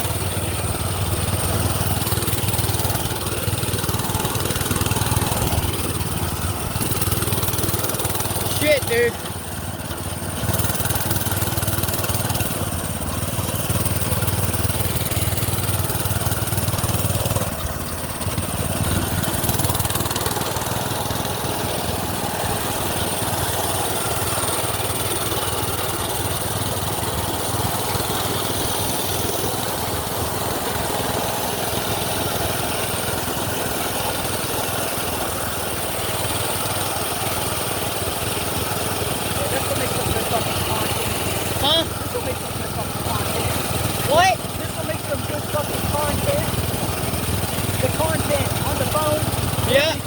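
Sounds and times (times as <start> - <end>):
small gas engine running: 0.0 - 50.0
wind and road noise: 0.0 - 50.0.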